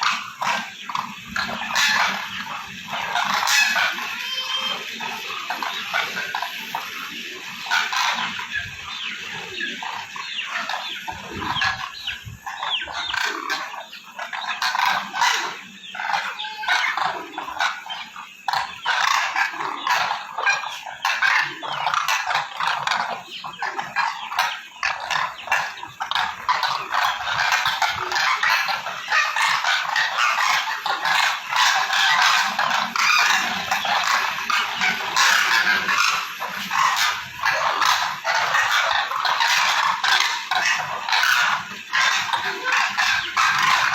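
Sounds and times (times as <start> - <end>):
flock of cranes calling: 0.0 - 43.9.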